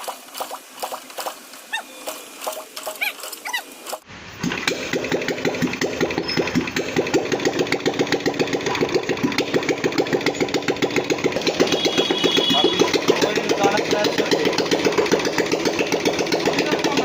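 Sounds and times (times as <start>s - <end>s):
motorcycle engine starting and idling: 0.0s - 17.0s.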